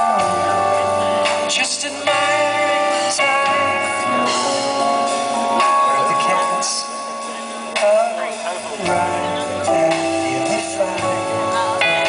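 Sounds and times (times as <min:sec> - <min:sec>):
drums with cymbal strokes: 0:00.0 - 0:12.0
smooth jazz band playing: 0:00.0 - 0:12.0.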